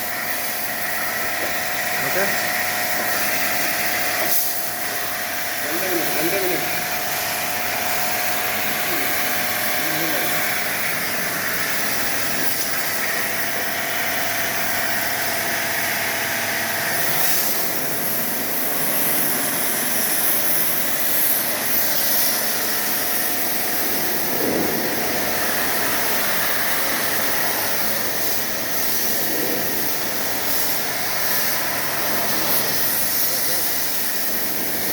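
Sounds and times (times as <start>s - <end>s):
pressure washer pump running: 0.0s - 34.9s
water jet hissing: 0.0s - 34.9s.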